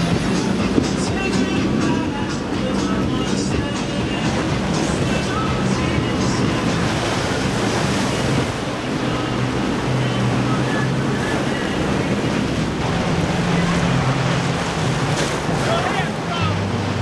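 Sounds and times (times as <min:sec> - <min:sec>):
boat engines droning: 0:00.0 - 0:17.0
waves: 0:00.0 - 0:17.0.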